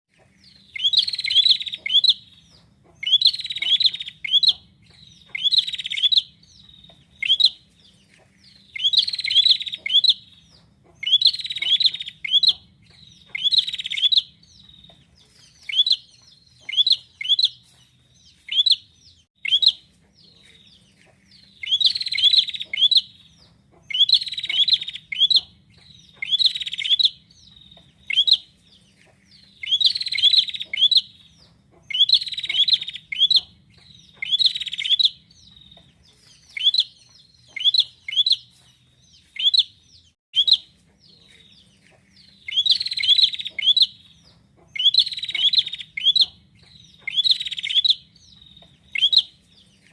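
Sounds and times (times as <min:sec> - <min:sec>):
bird buzzy chirping: 0:00.1 - 0:49.9.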